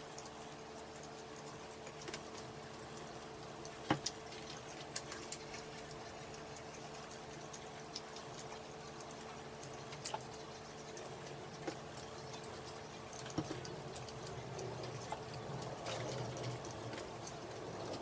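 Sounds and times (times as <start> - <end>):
faint steady hum: 0.0 - 18.0
chewing food clicks: 0.1 - 18.0.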